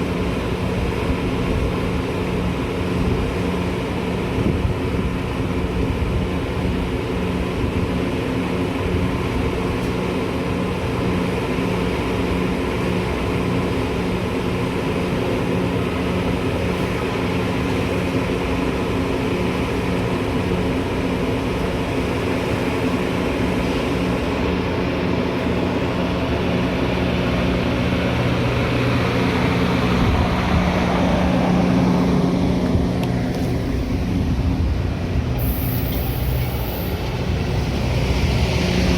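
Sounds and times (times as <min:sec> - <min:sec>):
train running hum and rumble: 0:00.0 - 0:38.9.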